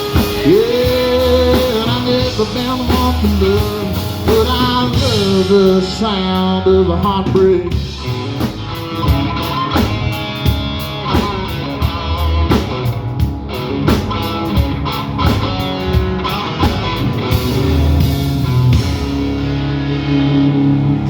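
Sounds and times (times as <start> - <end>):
drum beat: 0.0 - 6.5, 7.1 - 19.4
guitars: 0.0 - 21.0.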